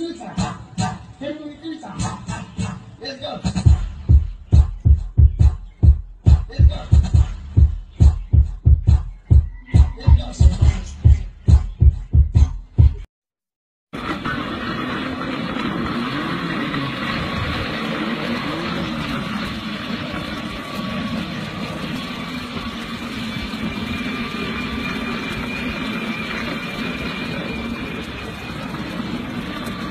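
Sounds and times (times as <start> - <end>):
street traffic noise: 0.0 - 13.0, 13.9 - 29.9.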